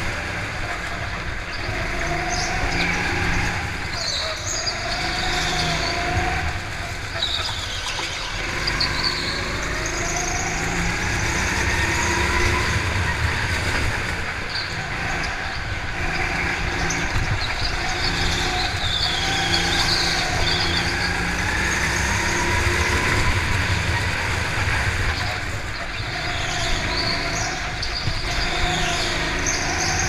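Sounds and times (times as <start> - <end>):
go-kart engine revving: 0.0 - 30.0
tyre squeals: 0.0 - 30.0.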